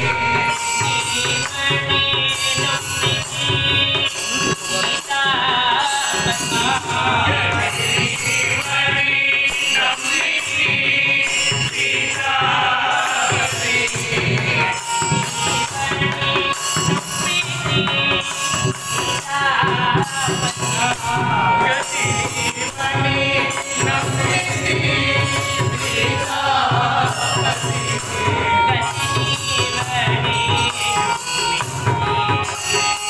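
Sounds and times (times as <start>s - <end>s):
men singing in unison: 0.0s - 30.9s
hand cymbals struck: 0.0s - 33.0s
harmonium: 0.0s - 33.0s.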